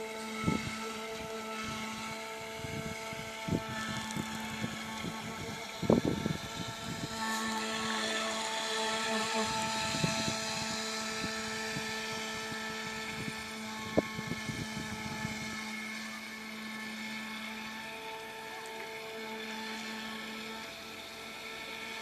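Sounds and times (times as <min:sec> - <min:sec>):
electric boat motor humming: 0:00.0 - 0:22.0.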